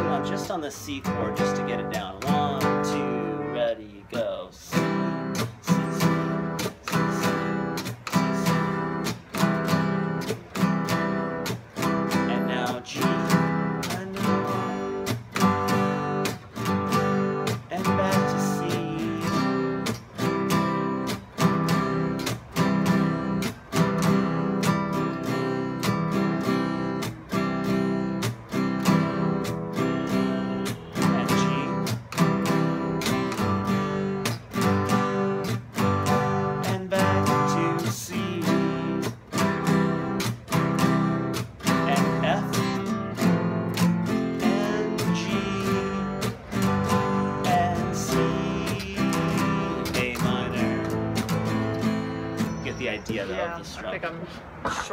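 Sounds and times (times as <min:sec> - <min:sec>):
acoustic guitar strumming: 0:00.0 - 0:54.9.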